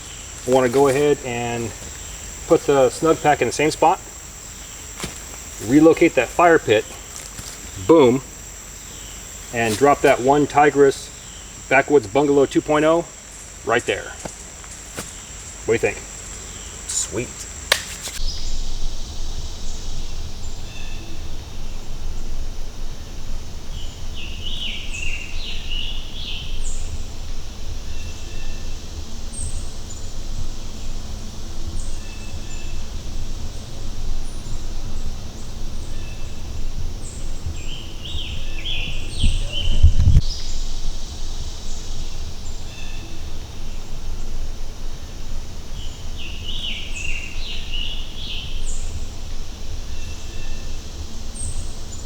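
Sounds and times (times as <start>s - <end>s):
birds singing: 0.0s - 21.1s, 23.7s - 27.0s, 31.8s - 43.3s, 45.7s - 52.0s.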